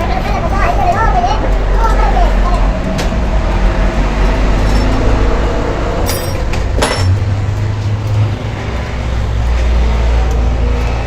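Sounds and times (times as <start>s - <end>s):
heavy engine droning: 0.0s - 11.0s.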